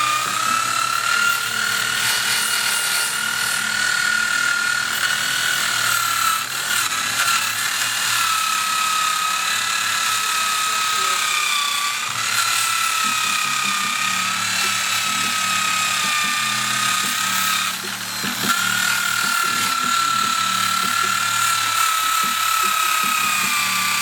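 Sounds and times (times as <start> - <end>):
power tool motor whining: 0.0 - 24.0.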